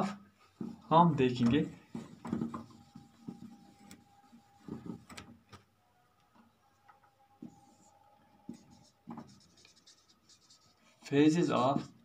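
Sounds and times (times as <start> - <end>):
marker scratching on whiteboard: 0.0 - 5.3, 7.4 - 12.0.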